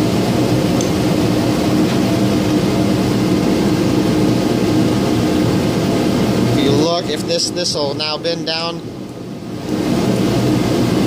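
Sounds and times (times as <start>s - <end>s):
loud mechanical drone: 0.0s - 11.0s.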